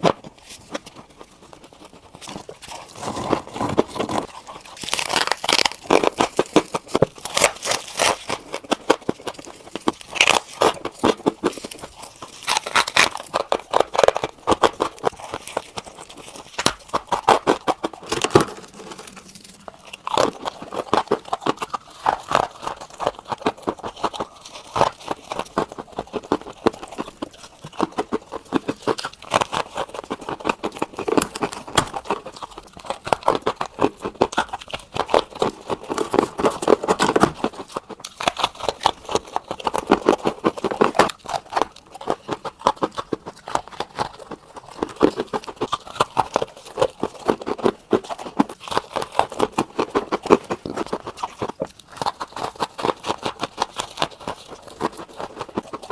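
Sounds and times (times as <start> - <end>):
ice crunching while chewed: 0.0 - 55.9.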